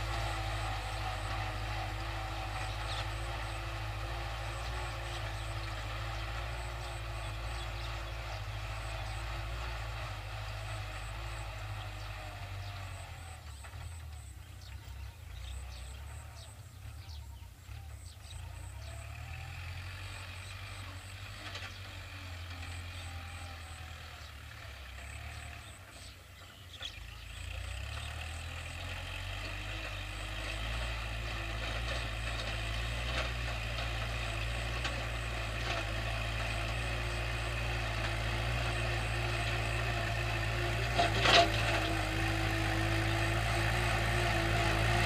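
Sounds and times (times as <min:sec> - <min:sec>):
tractor diesel engine droning: 0:00.0 - 0:45.0.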